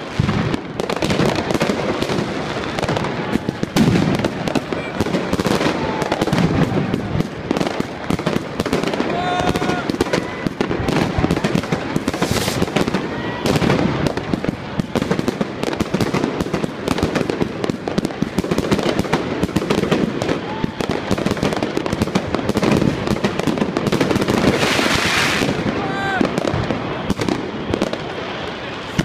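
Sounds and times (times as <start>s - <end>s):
fireworks bangs and pops: 0.0s - 29.0s.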